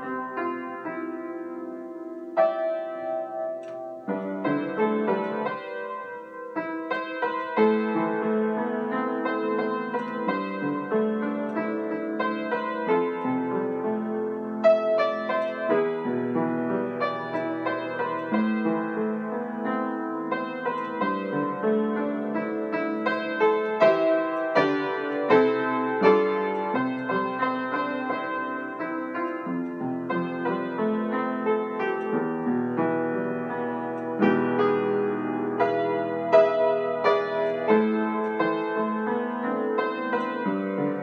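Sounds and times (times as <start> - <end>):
solo piano: 0.0 - 41.0.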